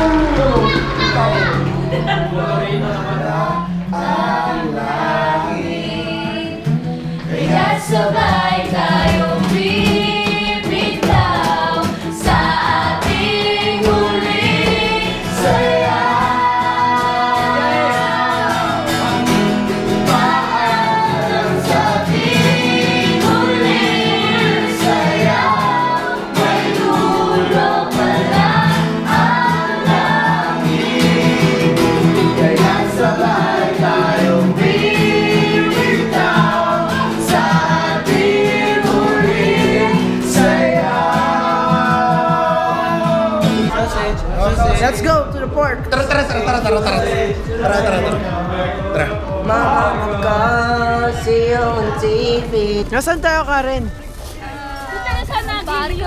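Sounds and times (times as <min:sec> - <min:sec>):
voices singing with accompaniment: 0:00.0 - 0:56.0.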